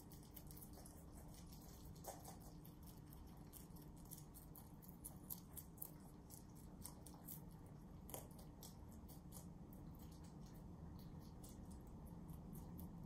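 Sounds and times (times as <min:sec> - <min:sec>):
rabbits chewing crunchy greens: 0:00.0 - 0:13.0.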